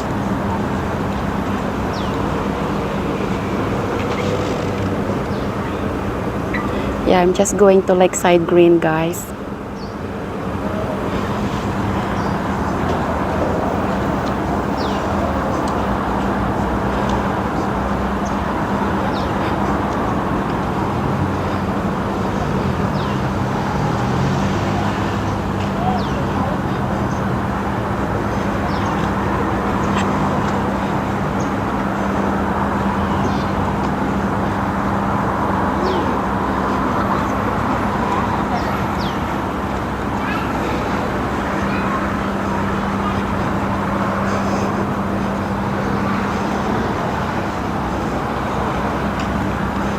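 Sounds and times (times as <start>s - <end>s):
rushing background noise: 0.0s - 49.9s.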